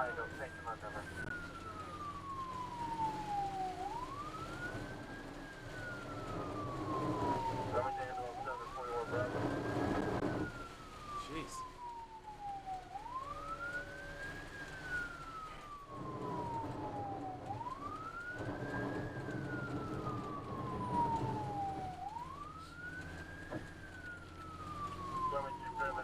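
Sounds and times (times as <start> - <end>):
ambulance siren wailing: 0.0 - 26.0
vehicle rumble: 0.0 - 26.0.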